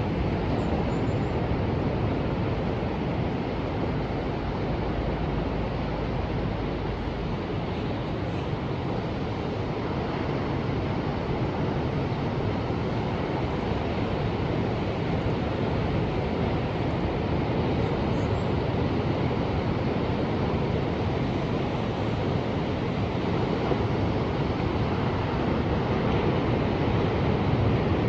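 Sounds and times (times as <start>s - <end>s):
ocean waves washing: 0.0s - 28.0s.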